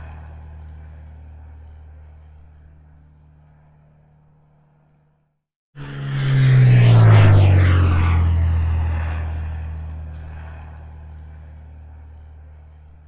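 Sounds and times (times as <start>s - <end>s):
low-flying airplane passing overhead: 0.0s - 5.0s, 5.8s - 13.0s.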